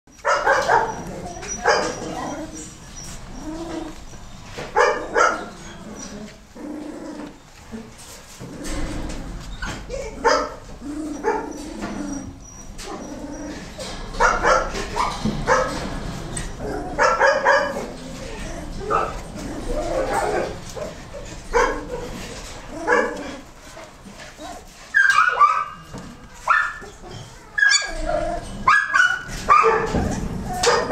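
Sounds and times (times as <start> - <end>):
puppies whimpering and squeaking: 0.1 - 30.9.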